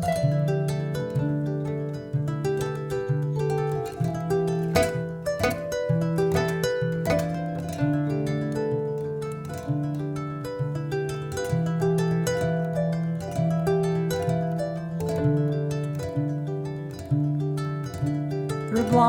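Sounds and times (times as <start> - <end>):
plucked harp-like notes: 0.0 - 19.0.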